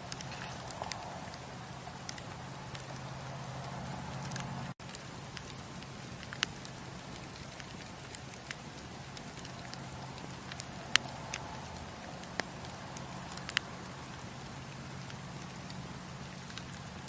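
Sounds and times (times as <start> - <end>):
campfire low rush: 0.0 - 17.0
fire crackles and pops: 0.0 - 17.0.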